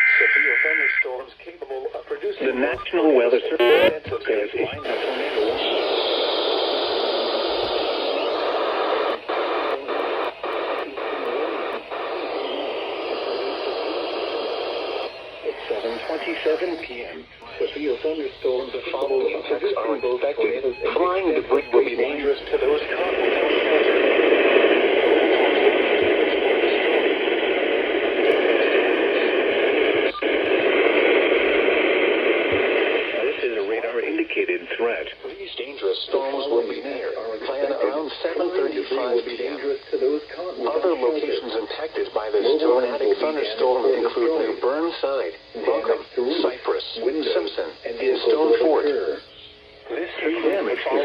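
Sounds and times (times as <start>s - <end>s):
radio static hiss: 0.0s - 51.0s.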